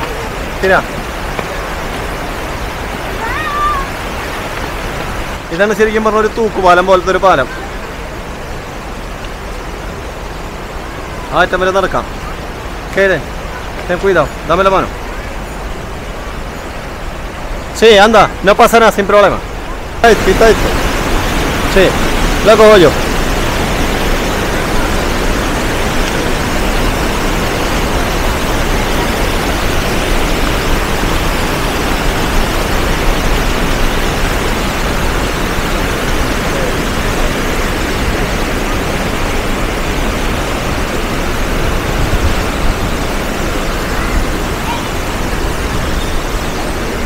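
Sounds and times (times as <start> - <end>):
river water rushing over weir: 0.0 - 47.0.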